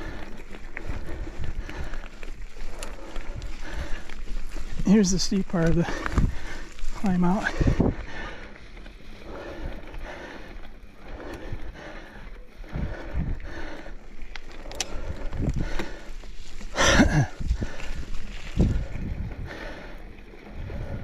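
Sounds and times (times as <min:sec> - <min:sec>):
bike knocking and rattling: 0:00.0 - 0:21.0
bike tyres rolling over dirt: 0:00.0 - 0:21.0.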